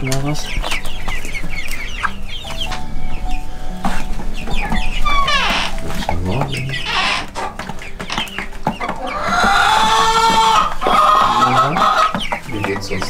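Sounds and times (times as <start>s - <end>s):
young chickens peeping and clucking: 0.0s - 13.0s.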